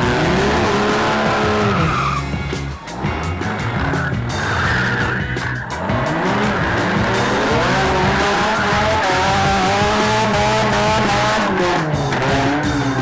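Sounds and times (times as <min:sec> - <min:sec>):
background music: 0:00.0 - 0:13.0
race car engine revving: 0:00.0 - 0:13.0.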